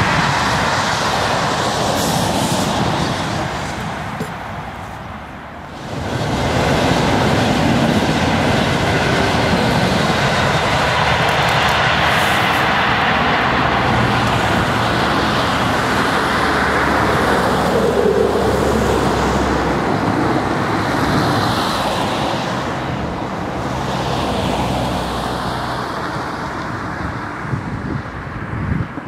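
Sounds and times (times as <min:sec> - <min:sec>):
electric train rumbling: 0:00.0 - 0:29.0.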